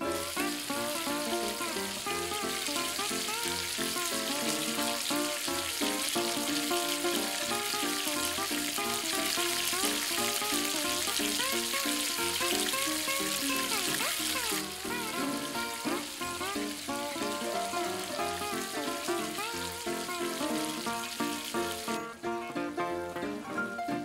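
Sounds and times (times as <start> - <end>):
background music: 0.0 - 24.0
hot oil sizzling: 0.0 - 24.0.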